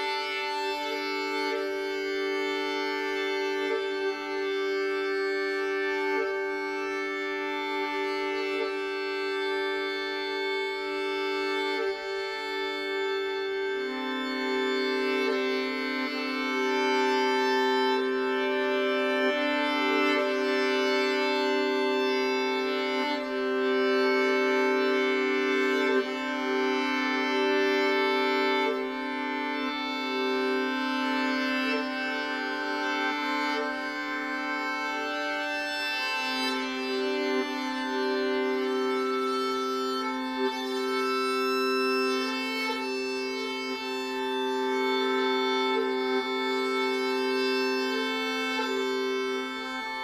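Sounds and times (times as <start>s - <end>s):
violin and viola drone notes: 0.0s - 50.0s.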